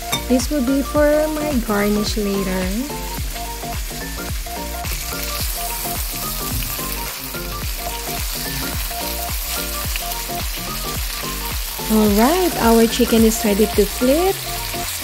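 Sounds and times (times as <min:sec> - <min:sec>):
background music of repeated notes: 0:00.0 - 0:15.0
chicken sizzling in oil: 0:00.0 - 0:15.0.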